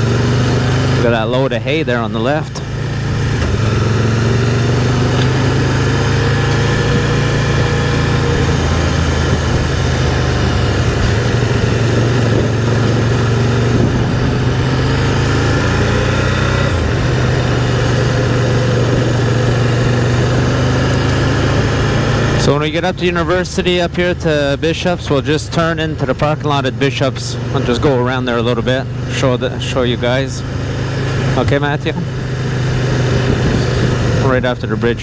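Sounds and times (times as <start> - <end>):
three-wheeler engine running: 0.0 - 35.0
wind and road noise: 0.0 - 35.0.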